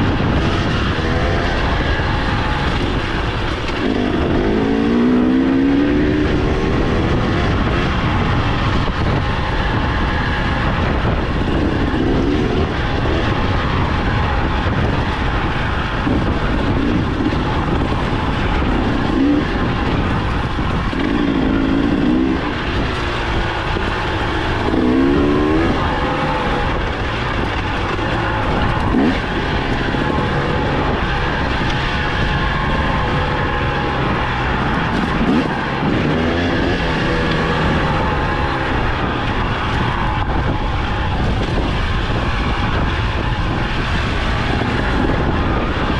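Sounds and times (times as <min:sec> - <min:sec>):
dirt bike engine revving: 0:00.0 - 0:45.9
steady rushing noise: 0:00.0 - 0:45.9.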